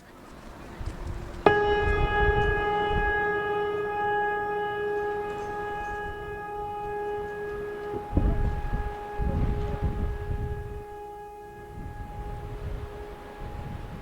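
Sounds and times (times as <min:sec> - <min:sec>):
long steady horn tone: 0:00.0 - 0:14.0
low rumble: 0:00.2 - 0:14.0.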